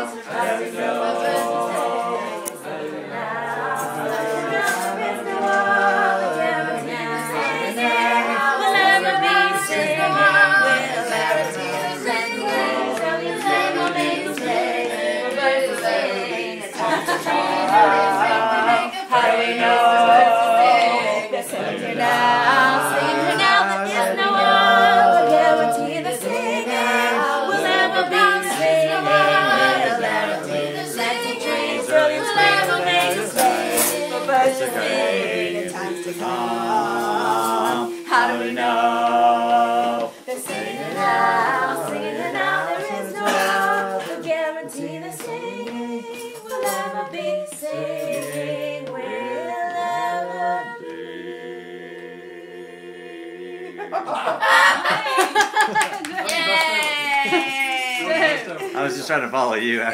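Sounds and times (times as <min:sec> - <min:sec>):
group singing a cappella: 0:00.0 - 0:59.9.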